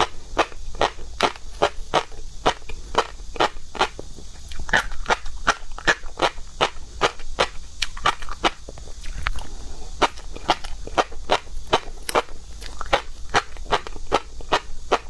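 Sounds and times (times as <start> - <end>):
crunchy chewing of seafood: 0.0 - 15.0.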